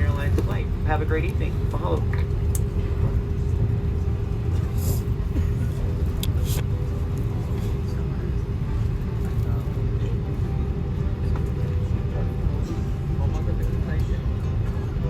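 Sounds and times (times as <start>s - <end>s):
aircraft cabin rumble and hum: 0.0s - 15.0s.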